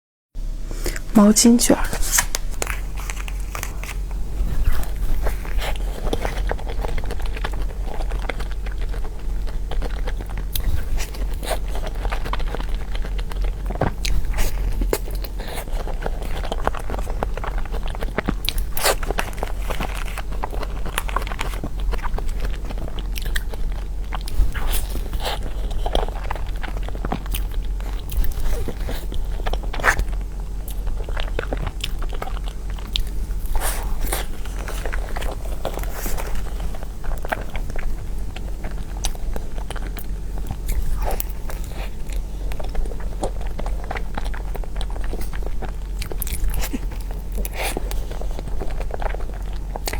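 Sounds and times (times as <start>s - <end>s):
low hum: 0.4s - 49.8s
person chewing cake: 0.7s - 1.2s, 1.9s - 49.9s.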